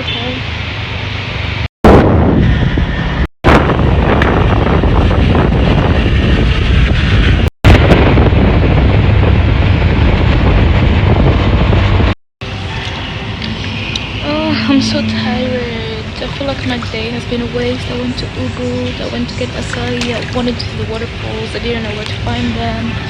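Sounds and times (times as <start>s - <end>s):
moving vehicle rumble: 0.0s - 23.0s
wind buffeting microphone: 1.9s - 23.0s.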